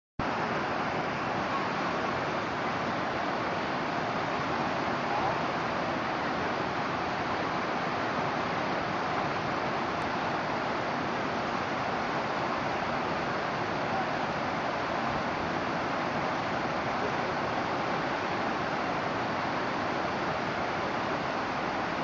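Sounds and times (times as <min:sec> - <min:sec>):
whitewater rapids rushing: 0:00.2 - 0:22.0.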